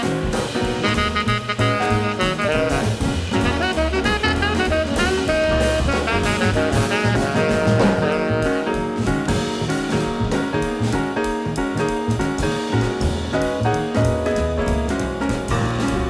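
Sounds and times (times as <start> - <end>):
instrumental background music: 0.0 - 16.0
steady drum beat: 0.0 - 16.0.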